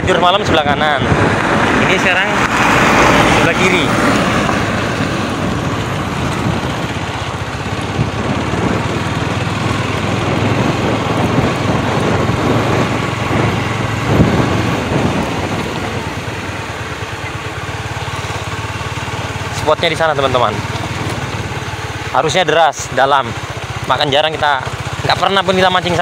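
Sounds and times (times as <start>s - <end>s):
motorcycle engine running: 0.0s - 26.0s
wind: 0.0s - 26.0s.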